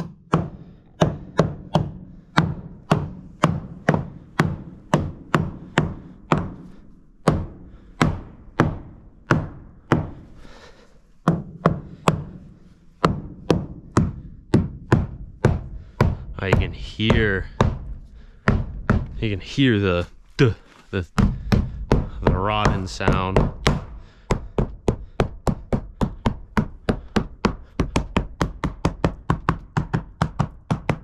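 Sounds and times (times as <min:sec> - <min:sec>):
hammer knocking on wood: 0:00.0 - 0:10.2, 0:11.2 - 0:19.5, 0:21.0 - 0:31.0.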